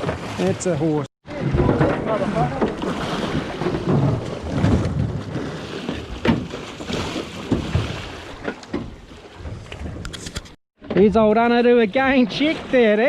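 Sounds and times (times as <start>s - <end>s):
water noise: 0.0s - 13.0s.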